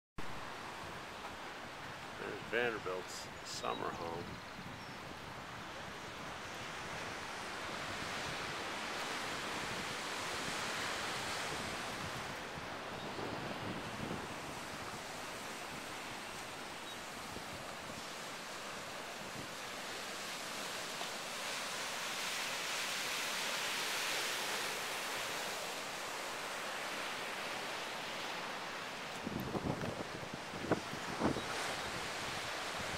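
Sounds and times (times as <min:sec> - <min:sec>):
sea surf washing on shore: 0:00.2 - 0:32.9.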